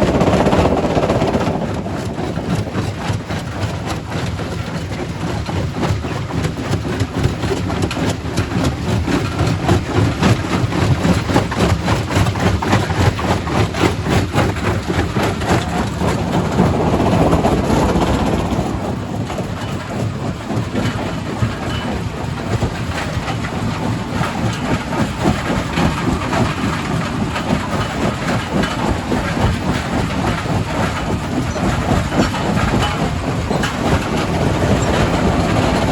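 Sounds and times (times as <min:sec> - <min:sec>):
rock crusher running: 0:00.0 - 0:35.9.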